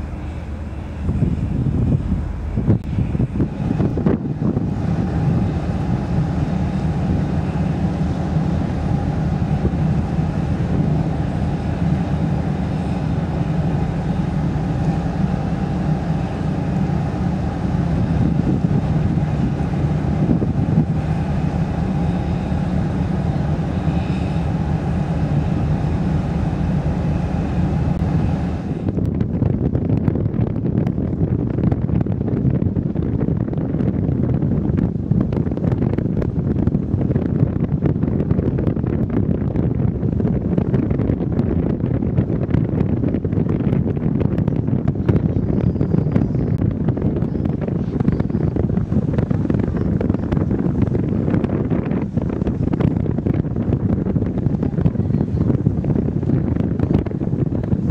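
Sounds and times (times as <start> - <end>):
ship engines droning: 0.0 - 29.2, 32.7 - 57.9
wind rumble on microphone: 0.0 - 57.9.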